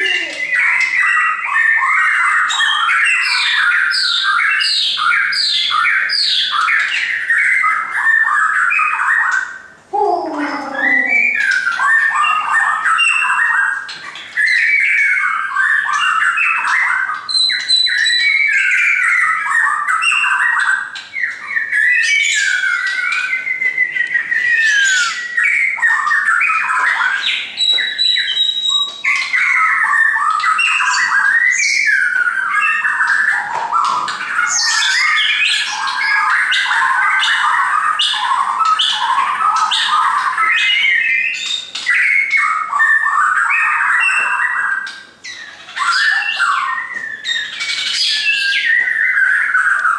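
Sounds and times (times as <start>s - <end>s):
bird singing whistled phrases: 0.0s - 49.9s.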